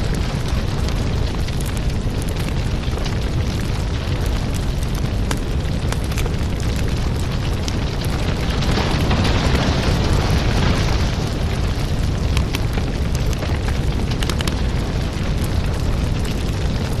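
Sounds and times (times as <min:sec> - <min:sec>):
firewood crackling and popping: 0:00.0 - 0:17.0
low rush of flames: 0:00.0 - 0:17.0.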